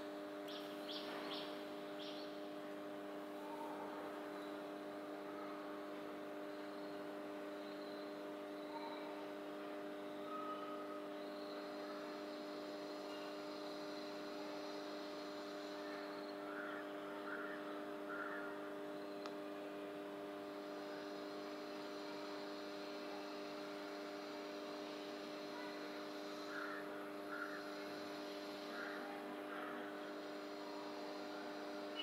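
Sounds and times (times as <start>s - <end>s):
faint steady low hum: 0.0s - 32.0s.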